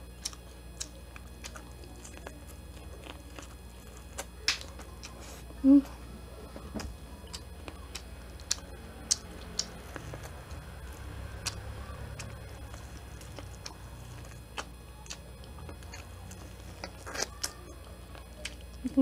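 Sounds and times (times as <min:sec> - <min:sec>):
corn on the cob being chewed: 0:00.0 - 0:05.6, 0:06.8 - 0:18.8.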